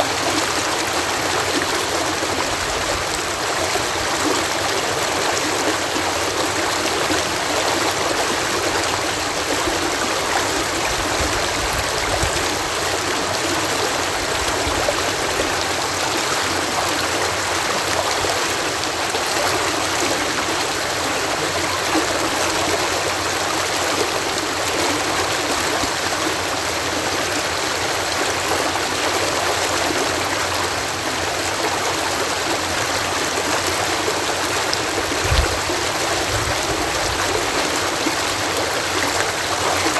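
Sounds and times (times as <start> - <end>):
water cascading over lock: 0.0 - 39.9.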